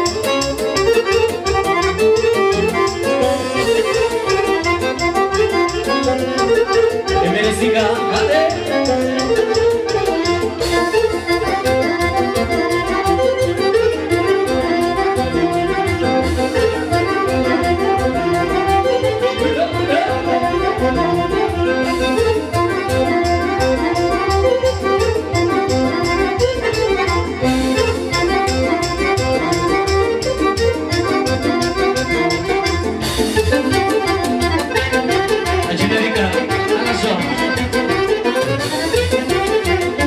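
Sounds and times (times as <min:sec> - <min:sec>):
accordion melody: 0:00.0 - 0:40.0
folk band playing dance music: 0:00.0 - 0:40.0.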